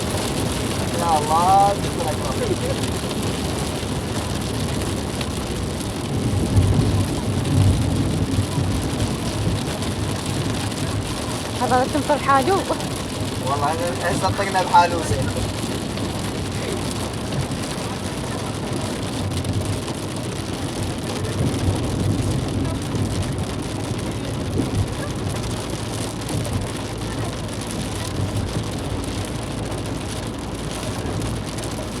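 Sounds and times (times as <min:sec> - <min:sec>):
low rumble: 0:00.0 - 0:32.0
steady rain falling: 0:00.0 - 0:32.0.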